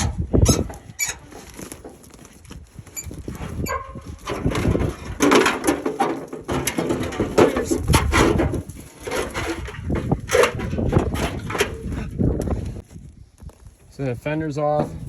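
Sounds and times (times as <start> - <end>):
sheet-metal fender creaking and scraping: 0.0 - 12.8, 14.7 - 15.0.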